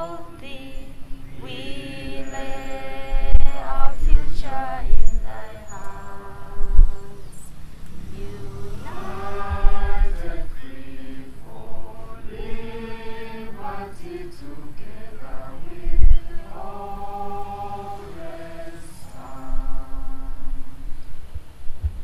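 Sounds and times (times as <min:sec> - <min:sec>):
crowd singing an anthem: 0:00.0 - 0:21.0.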